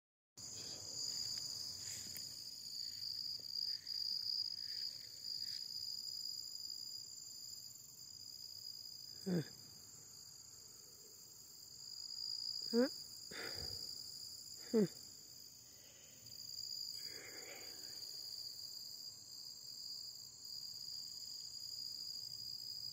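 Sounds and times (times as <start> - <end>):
crickets trilling: 0.4 - 22.9.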